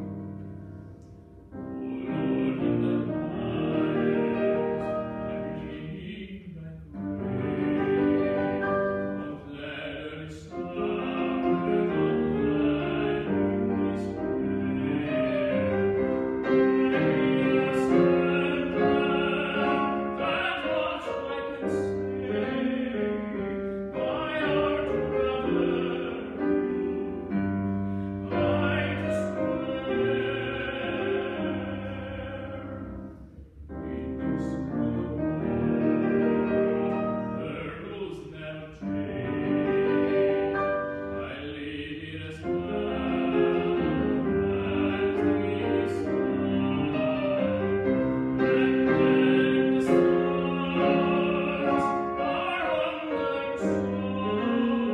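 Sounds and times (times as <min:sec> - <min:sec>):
grand piano: 0:00.0 - 0:54.9
man singing operatically: 0:01.6 - 0:33.1, 0:33.7 - 0:54.9.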